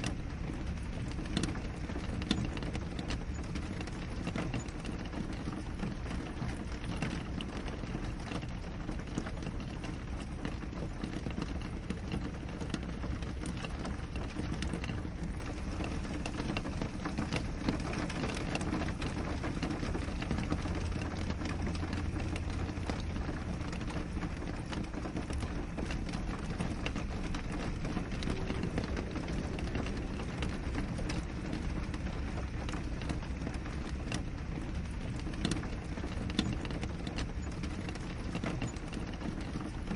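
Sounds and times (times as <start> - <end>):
rain tapping on window glass: 0.0 - 39.9.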